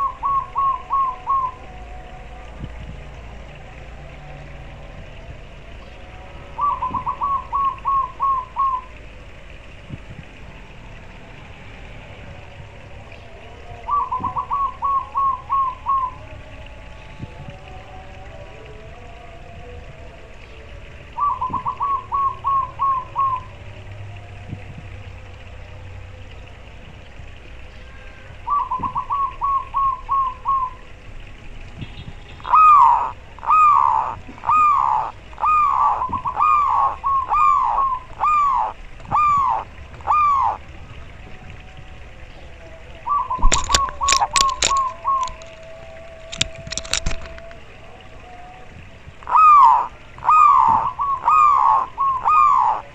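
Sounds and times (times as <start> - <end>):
dove cooing: 0.0 - 3.5, 4.1 - 11.2, 12.1 - 24.8, 28.0 - 52.9.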